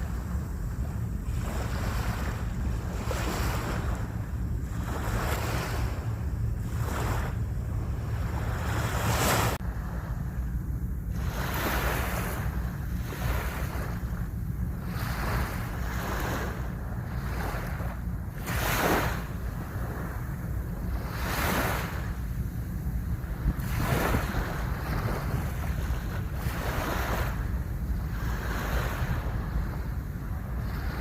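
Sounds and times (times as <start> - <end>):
ocean waves breaking on shore: 0.0 - 31.0
wind rumble on microphone: 0.0 - 31.0.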